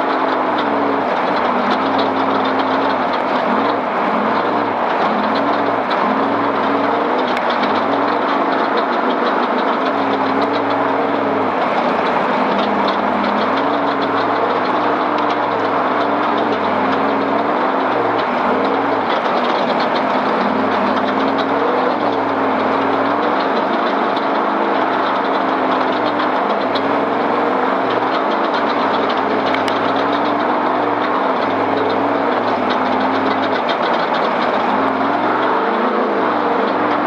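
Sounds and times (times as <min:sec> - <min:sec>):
race vehicle engine running: 0:00.0 - 0:37.0
small rattles: 0:00.0 - 0:37.0.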